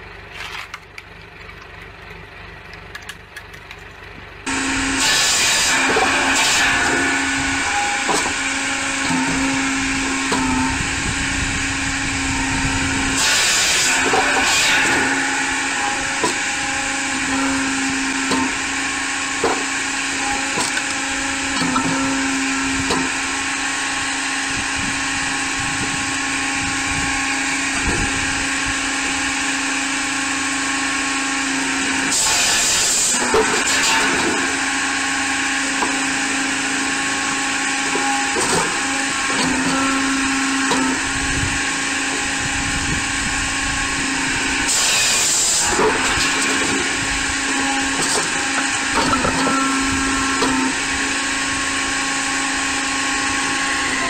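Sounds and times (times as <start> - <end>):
firewood processor humming: 0.0 - 54.0.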